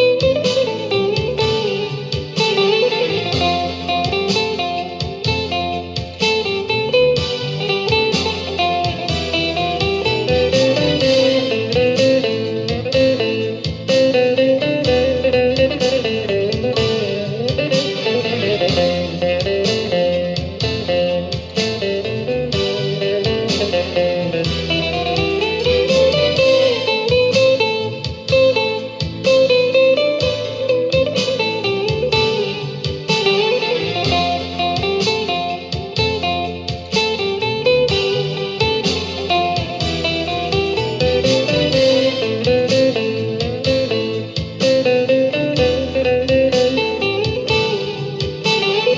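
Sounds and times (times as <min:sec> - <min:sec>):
plucked guitar melody: 0:00.0 - 0:48.9.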